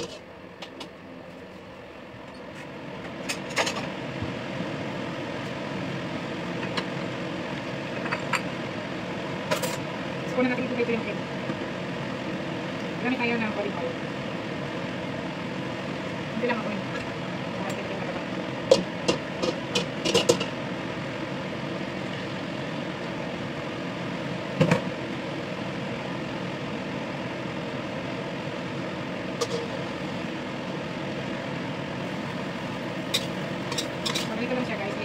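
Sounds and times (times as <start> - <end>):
kitchen hum: 0.0 - 35.0
egg frying in a wok: 2.7 - 35.0.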